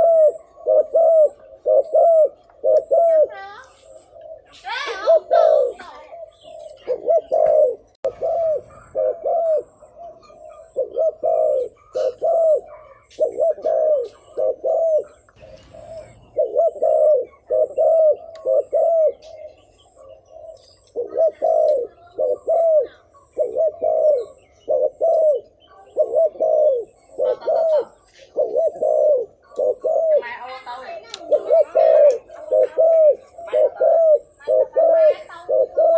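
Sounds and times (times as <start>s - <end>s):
dove cooing rapidly: 0.0s - 35.9s.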